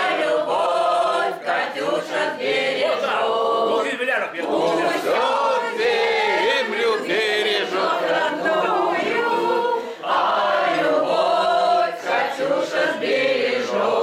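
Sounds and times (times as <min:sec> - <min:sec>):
choir singing: 0:00.0 - 0:14.0.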